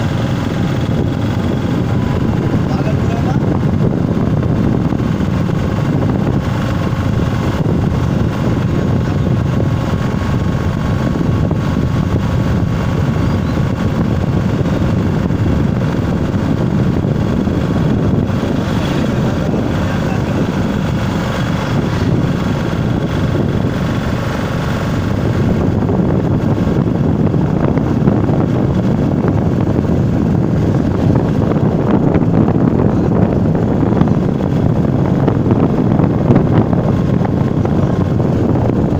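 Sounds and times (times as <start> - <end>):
vehicle road noise: 0.0 - 38.9
wind buffeting microphone: 0.0 - 38.9.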